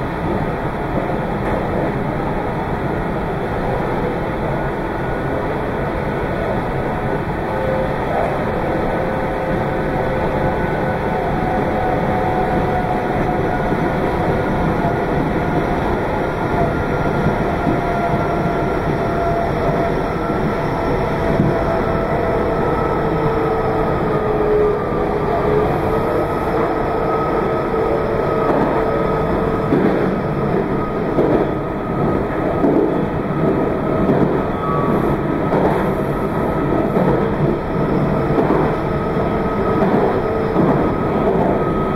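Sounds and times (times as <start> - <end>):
train wheel and running noise: 0.0 - 41.9.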